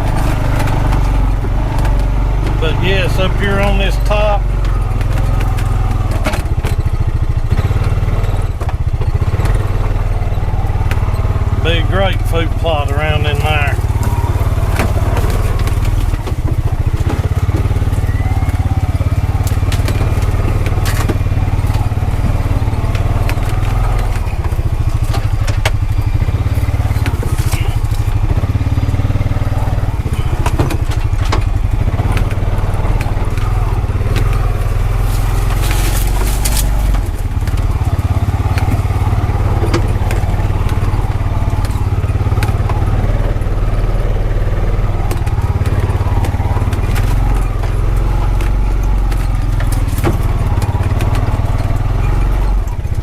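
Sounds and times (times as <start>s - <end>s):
tyres crunching over sticks: 0.0s - 53.0s
vehicle engine running: 0.0s - 53.0s.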